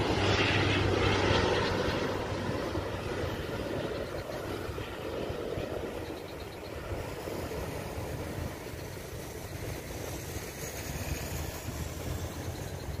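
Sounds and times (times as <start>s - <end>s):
jet engines rumbling: 0.0s - 13.0s
wind buffeting microphone: 0.0s - 13.0s.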